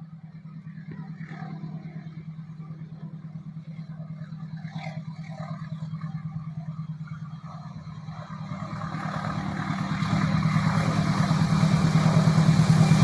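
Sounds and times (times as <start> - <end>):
engine running with pulsing beat: 0.0 - 13.0.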